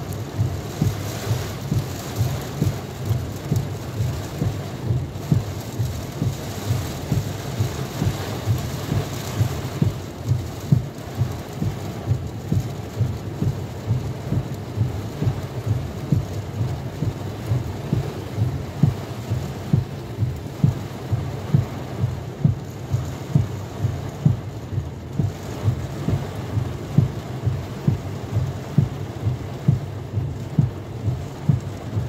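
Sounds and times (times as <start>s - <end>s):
heavy rain on car: 0.0s - 32.0s.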